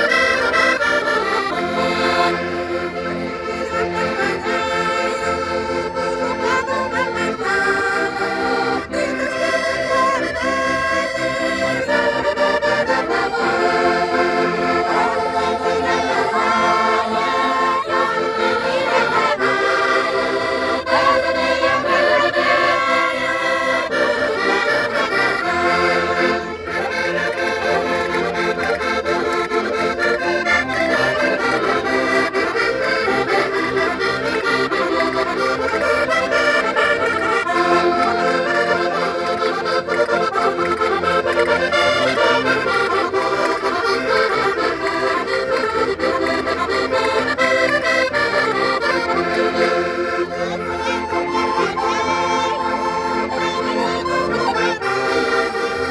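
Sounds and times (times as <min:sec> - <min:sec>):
concertinas playing folk tune: 0:00.0 - 0:55.9.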